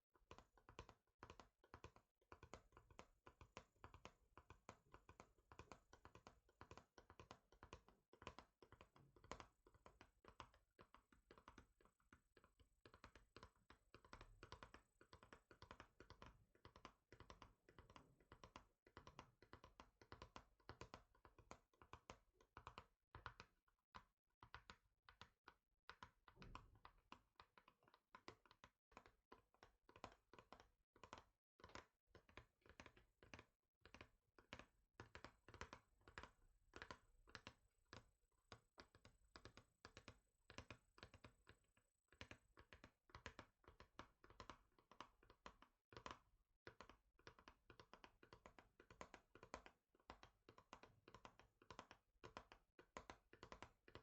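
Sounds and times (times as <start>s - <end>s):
fingers tapping on hard surface: 0.2s - 54.0s.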